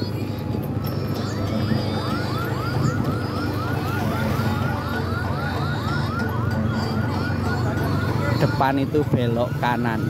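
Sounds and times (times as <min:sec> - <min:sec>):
electronic siren chirps: 0:01.2 - 0:10.0.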